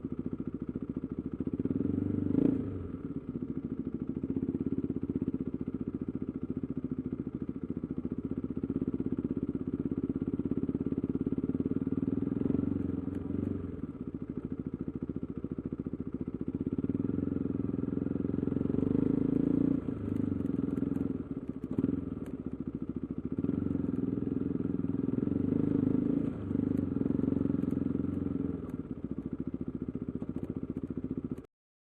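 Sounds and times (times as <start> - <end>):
motorcycle engine running: 0.0 - 31.5.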